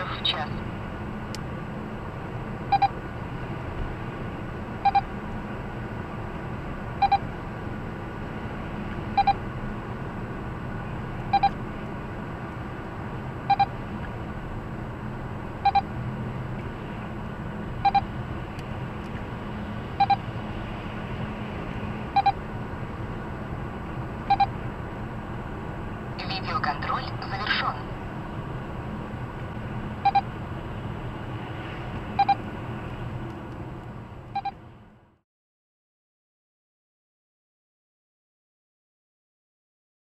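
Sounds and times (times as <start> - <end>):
car road noise: 0.0 - 35.2.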